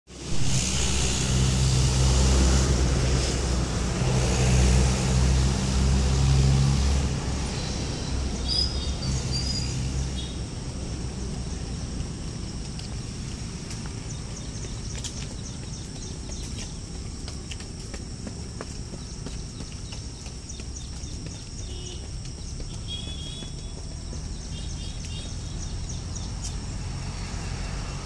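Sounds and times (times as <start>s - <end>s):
vehicle engine humming: 0.1s - 28.0s.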